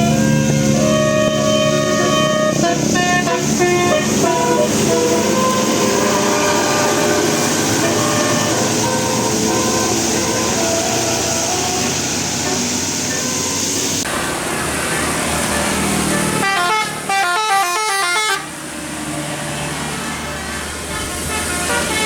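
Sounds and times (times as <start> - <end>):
bus musical horn playing a tune: 0.0 - 13.8, 15.5 - 18.6, 20.8 - 22.0.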